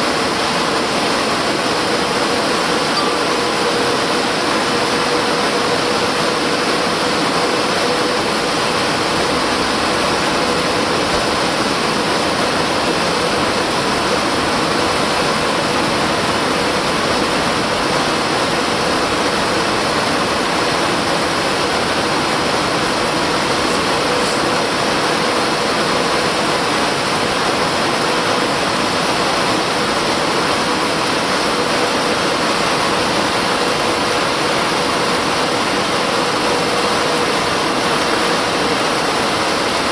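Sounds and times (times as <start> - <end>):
jet engines and airflow rushing: 0.0 - 39.9.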